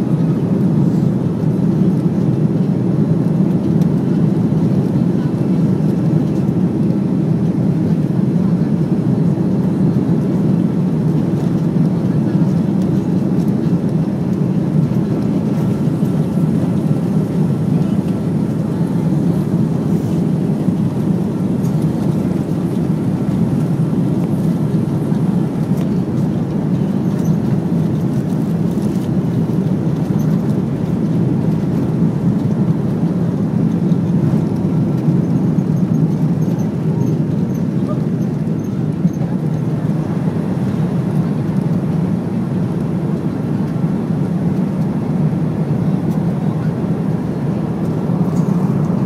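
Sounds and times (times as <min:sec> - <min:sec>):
jet engines and air rush: 0:00.0 - 0:49.0.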